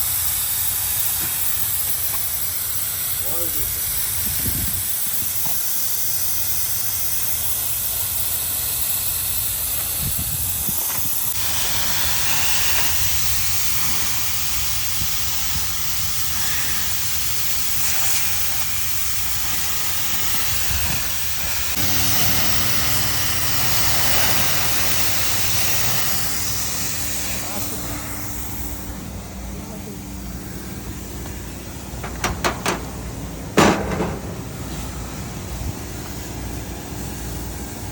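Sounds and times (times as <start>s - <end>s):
pressurised gas hissing: 0.0s - 29.4s, 30.2s - 37.9s.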